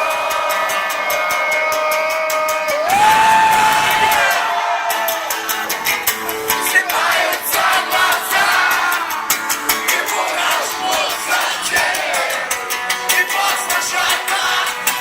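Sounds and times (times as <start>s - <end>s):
person singing: 0.0s - 5.1s, 6.4s - 15.0s
guitar: 0.0s - 15.0s.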